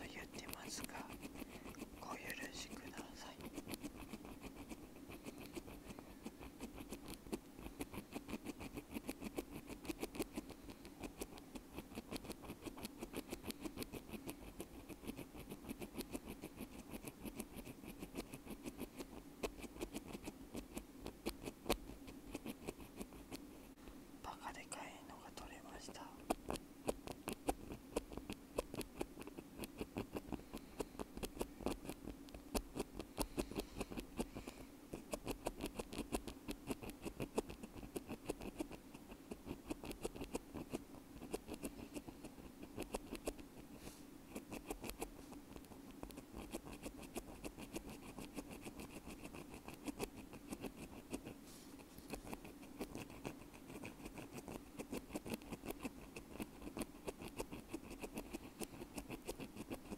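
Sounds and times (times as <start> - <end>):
ear pick scratching earbud: 0.0 - 23.5, 24.3 - 59.9.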